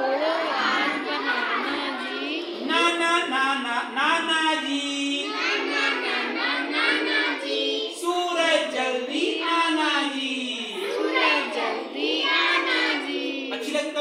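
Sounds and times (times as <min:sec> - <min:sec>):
children singing a rhyme: 0:00.0 - 0:03.1, 0:04.6 - 0:09.6, 0:10.5 - 0:14.0.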